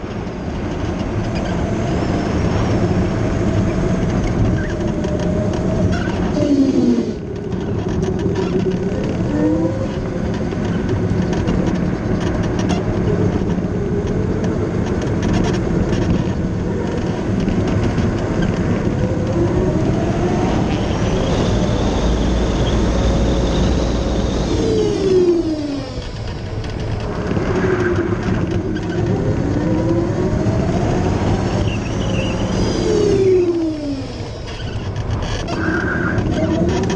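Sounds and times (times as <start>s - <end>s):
race car engine: 0.0s - 36.9s
road and wind noise: 0.0s - 36.9s.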